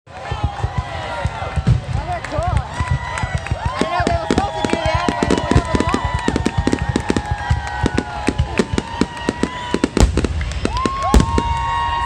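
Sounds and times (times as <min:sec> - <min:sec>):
fireworks banging: 0:00.1 - 0:12.0
fireworks whistling: 0:00.2 - 0:12.0.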